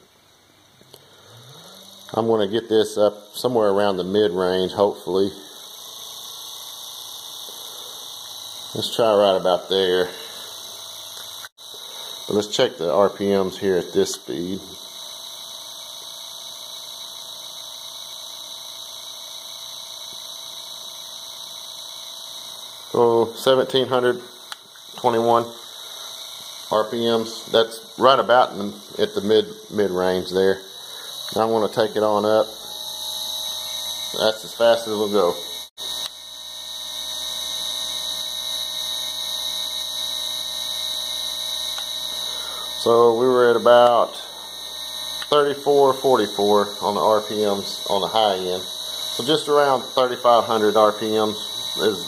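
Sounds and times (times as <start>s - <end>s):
electric motor high-pitched whine: 0.8s - 52.0s.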